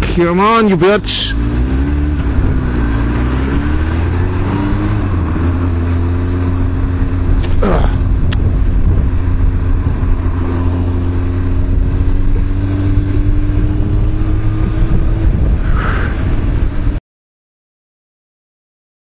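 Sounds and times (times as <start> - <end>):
motorcycle engine running: 0.0 - 17.0
wind rush: 1.3 - 17.0.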